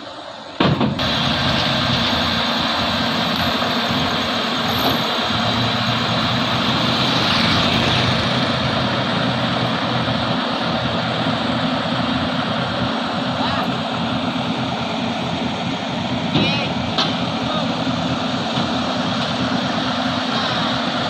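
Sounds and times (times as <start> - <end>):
broad rushing noise: 0.0 - 21.0
heavy diesel engine running: 0.0 - 21.0.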